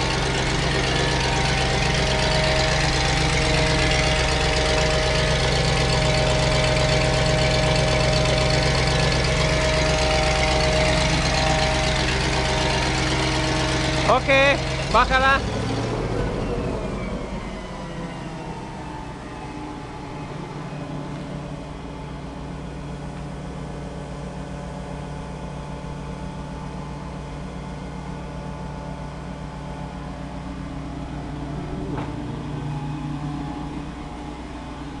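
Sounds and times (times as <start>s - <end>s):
forklift engine running: 0.0s - 35.0s.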